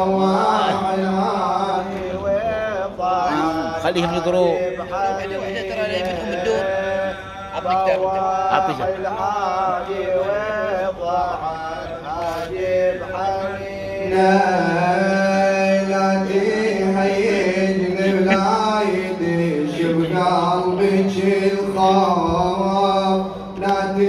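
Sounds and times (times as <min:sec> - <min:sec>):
man chanting lament: 0:00.0 - 0:24.0.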